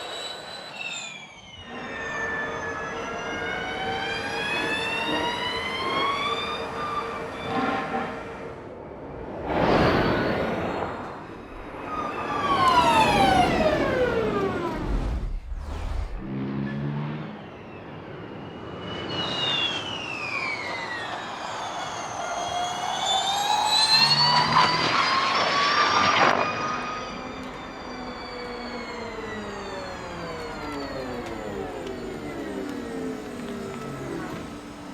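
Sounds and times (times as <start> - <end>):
electric race cars whining: 0.0 - 34.9.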